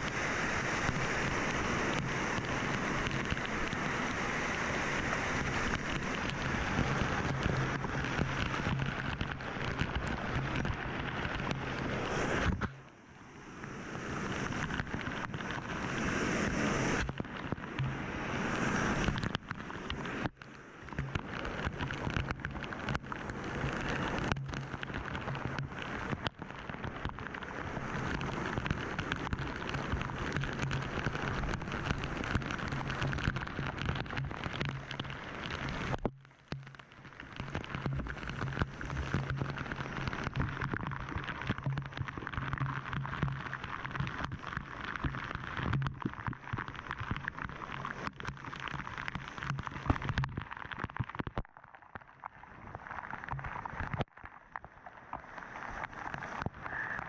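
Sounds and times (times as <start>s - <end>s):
rushing water roar: 0.0s - 51.4s, 52.0s - 57.0s.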